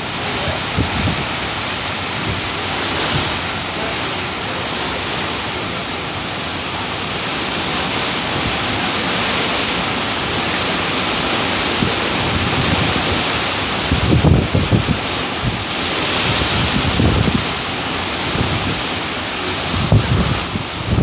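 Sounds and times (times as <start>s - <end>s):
wind with driving rain: 0.0s - 21.0s.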